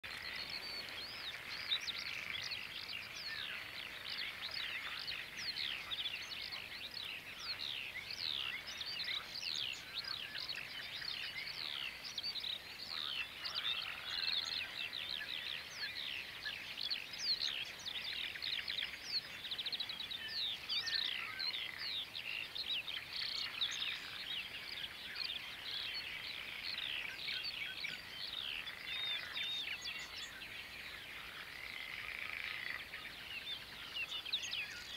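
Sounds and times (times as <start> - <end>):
many birds singing: 0.0 - 34.9.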